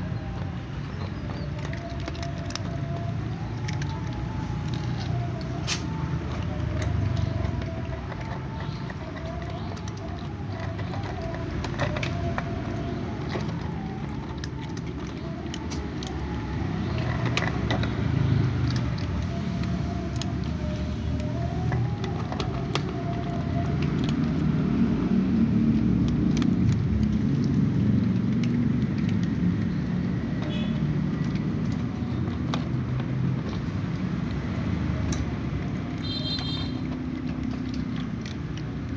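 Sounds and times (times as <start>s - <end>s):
cats crunching dry kibble: 0.0s - 38.9s.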